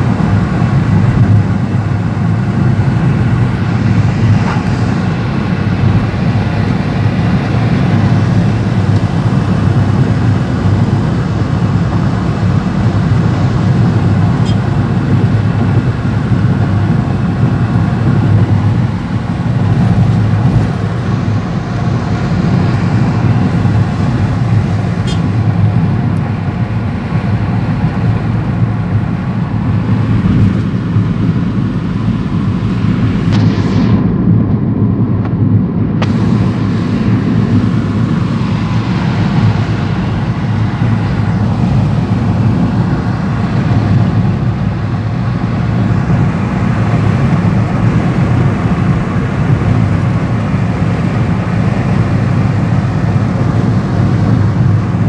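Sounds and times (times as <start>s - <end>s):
car cabin road rumble: 0.0s - 55.0s.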